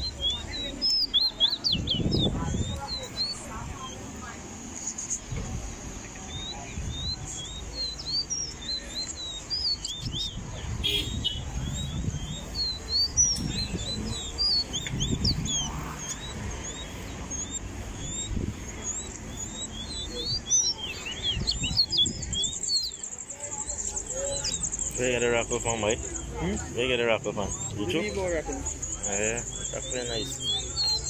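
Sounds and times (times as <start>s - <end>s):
songbirds chirping and whistling: 0.0s - 31.0s.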